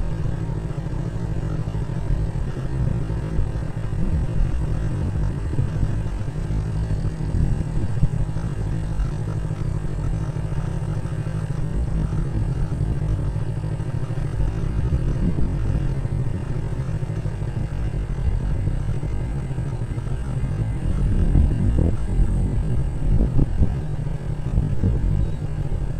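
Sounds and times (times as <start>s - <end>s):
steady low rumble: 0.0s - 25.9s
wind buffeting microphone: 0.0s - 25.9s.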